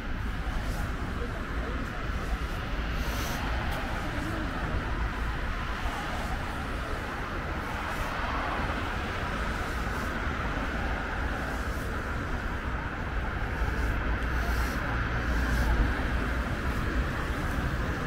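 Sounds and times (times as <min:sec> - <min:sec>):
low rumble of engines: 0:00.0 - 0:18.0
tyres hissing on wet road: 0:00.0 - 0:18.0.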